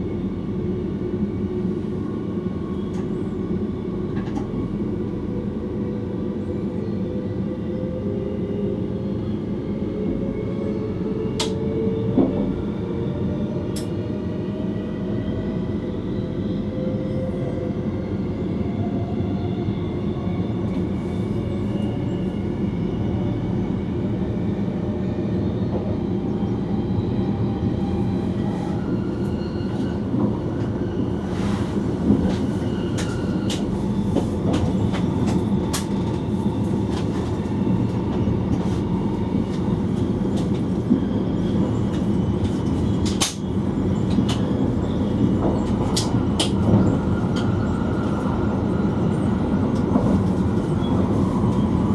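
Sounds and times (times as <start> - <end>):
train rumble: 0.0 - 51.9.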